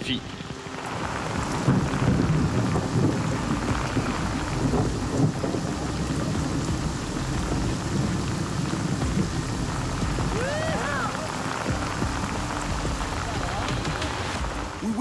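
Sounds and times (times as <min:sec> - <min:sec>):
low rumble: 0:00.0 - 0:14.9
heavy rain on water: 0:00.0 - 0:15.0.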